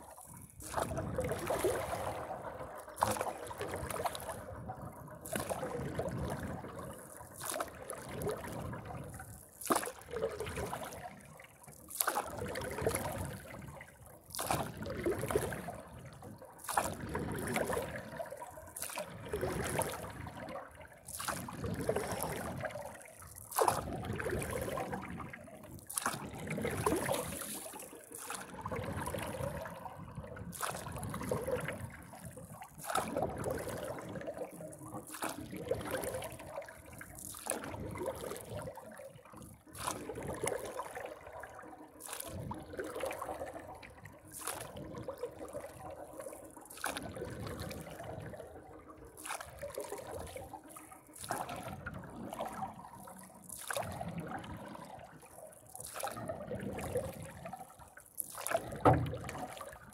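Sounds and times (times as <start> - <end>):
water swishing along board: 0.0 - 59.9.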